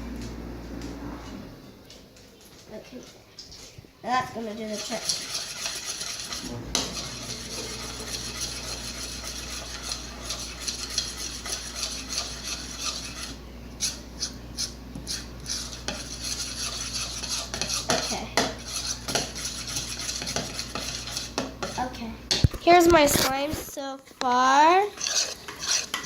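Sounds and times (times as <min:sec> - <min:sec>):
spoon stirring slime in bowl: 0:02.4 - 0:23.5, 0:24.2 - 0:26.0.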